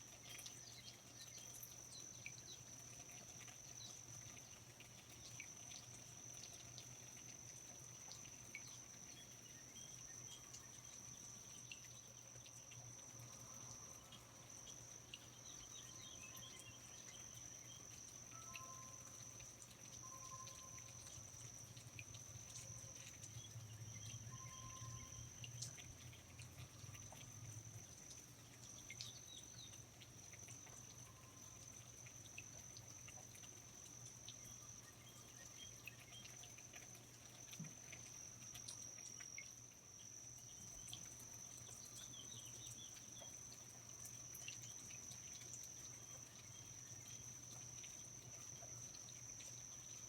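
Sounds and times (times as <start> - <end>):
insects trilling: 0.0 - 50.0
low steady hum: 0.0 - 50.0
water drips: 0.0 - 50.0.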